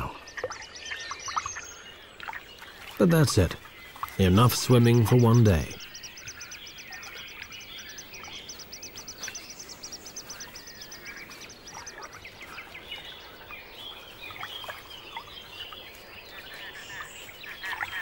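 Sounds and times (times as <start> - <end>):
wetland birds chirping: 0.0 - 18.0.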